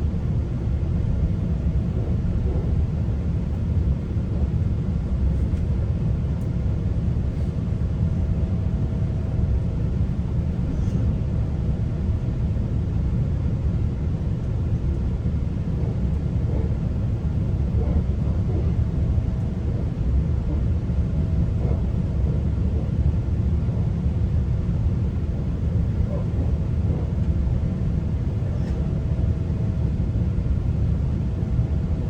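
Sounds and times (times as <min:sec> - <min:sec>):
faint steady hum: 0:00.0 - 0:32.0
train rumbling on track: 0:00.0 - 0:32.0.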